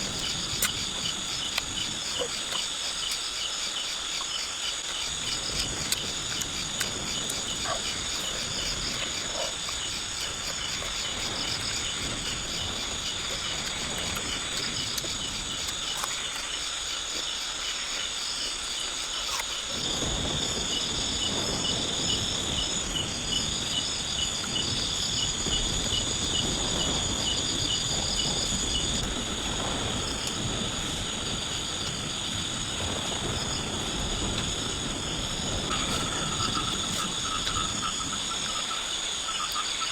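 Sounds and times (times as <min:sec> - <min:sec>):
insects buzzing: 0:00.0 - 0:39.9
insects chirping: 0:00.0 - 0:39.9.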